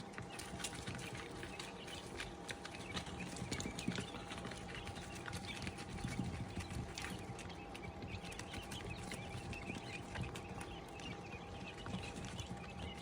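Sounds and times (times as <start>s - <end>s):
chicks cheeping: 0.0s - 13.0s.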